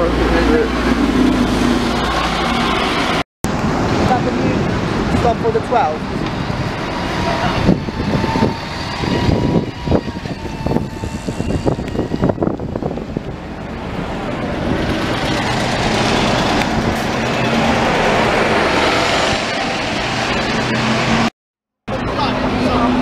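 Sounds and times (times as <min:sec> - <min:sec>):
bus engine running close by: 0:00.0 - 0:21.3, 0:21.9 - 0:23.0
street traffic: 0:00.0 - 0:23.0.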